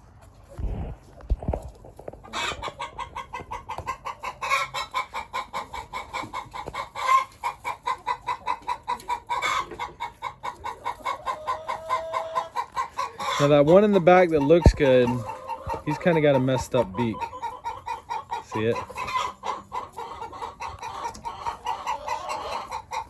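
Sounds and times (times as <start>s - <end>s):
roosters clucking: 0.0s - 23.0s.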